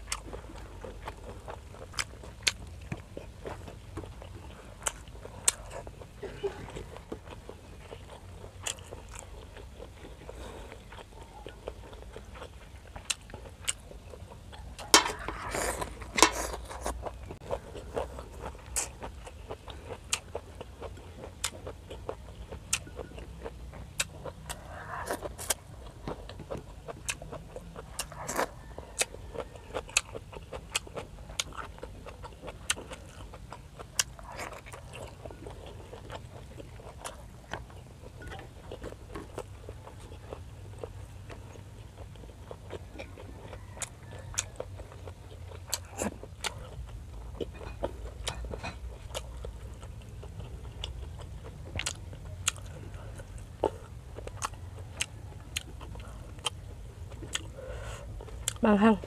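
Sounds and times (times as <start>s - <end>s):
close chewing and mouth clicks: 0.0s - 59.0s.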